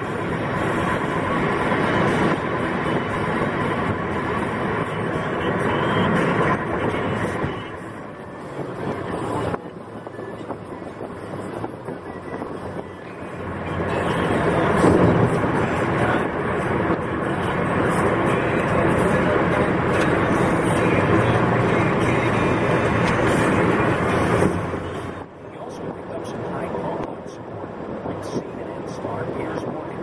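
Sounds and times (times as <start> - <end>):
car engine rumble: 0.0 - 30.0
road and tyre noise: 0.0 - 30.0.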